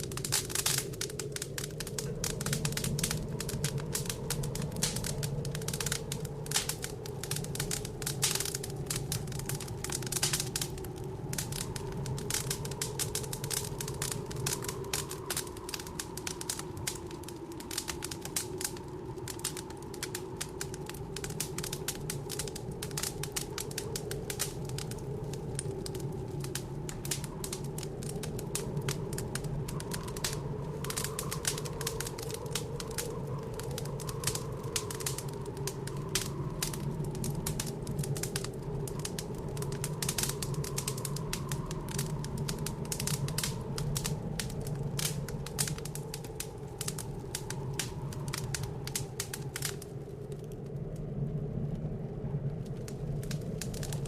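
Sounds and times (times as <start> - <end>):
howling blizzard wind: 0.0 - 54.0
wood fire crackling: 0.0 - 54.0.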